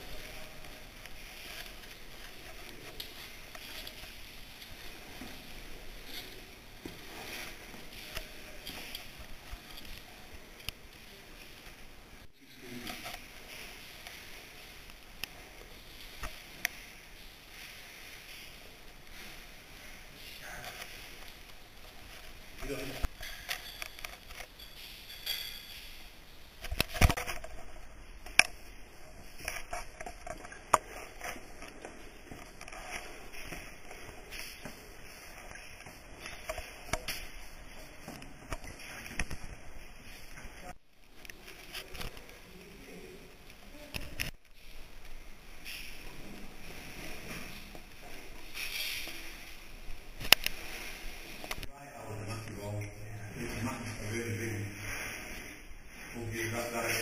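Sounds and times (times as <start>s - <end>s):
clothing rustling against rock: 0.0s - 43.5s, 44.1s - 51.7s.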